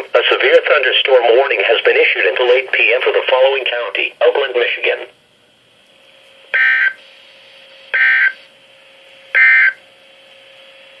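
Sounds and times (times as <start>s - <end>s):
faint hum and hiss: 0.0s - 11.0s.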